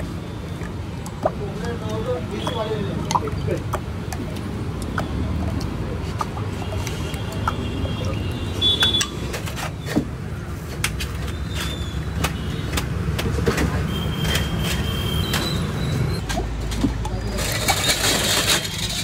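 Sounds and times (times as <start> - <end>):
low rumble of street traffic: 0.0 - 19.0.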